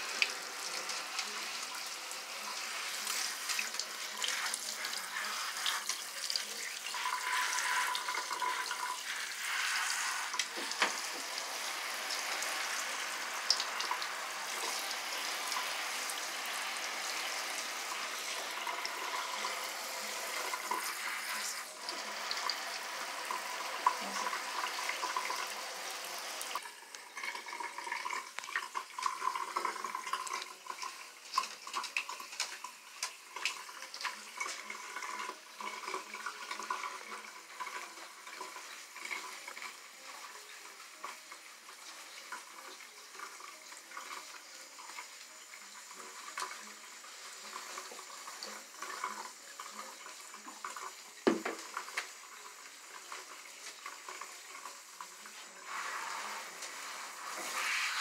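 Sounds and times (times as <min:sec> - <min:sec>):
shower water splashing: 0:00.0 - 0:58.0.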